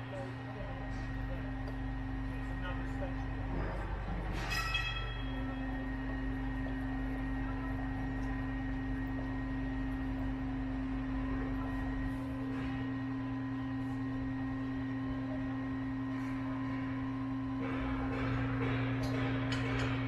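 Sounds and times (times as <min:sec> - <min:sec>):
ladder appliance engine humming: 0:00.0 - 0:20.0.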